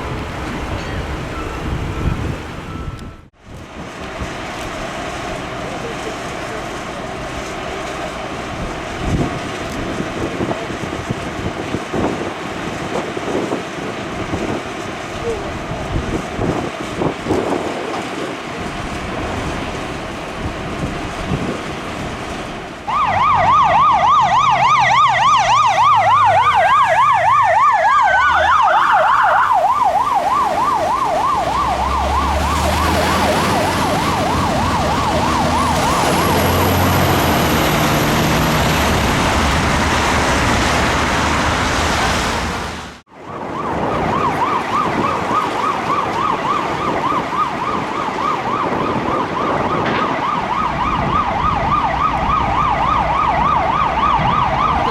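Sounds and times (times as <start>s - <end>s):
fire engine siren wailing: 0.0s - 54.9s
vehicle engine rumble: 0.0s - 54.9s.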